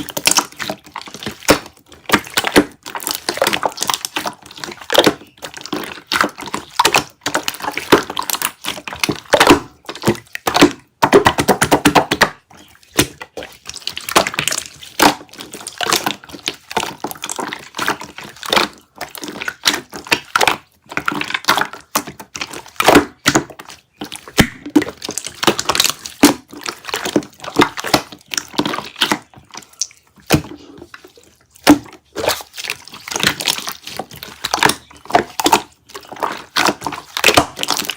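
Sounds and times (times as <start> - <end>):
slime squished by hand: 0.0 - 37.9.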